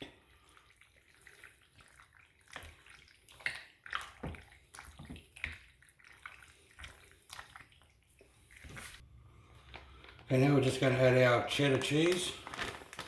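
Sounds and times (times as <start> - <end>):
wet squelching and sloshing: 0.0 - 10.4, 11.7 - 13.0.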